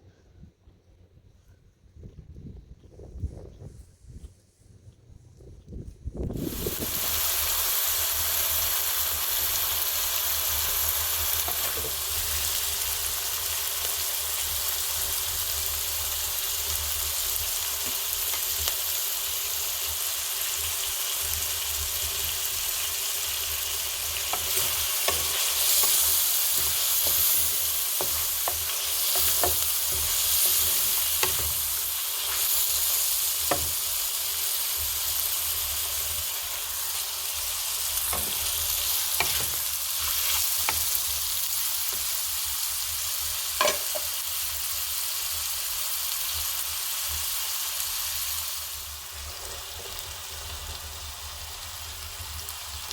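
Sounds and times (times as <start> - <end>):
food sizzling in oil: 6.4 - 52.9.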